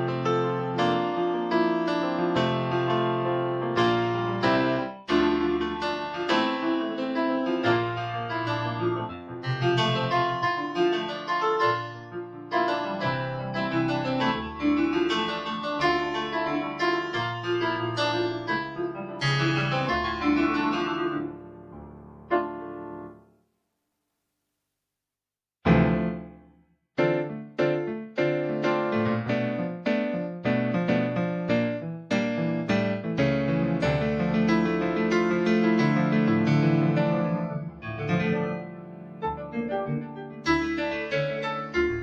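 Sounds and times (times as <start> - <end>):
keyboard piano chords and melody: 0.0 - 23.4, 25.6 - 42.0.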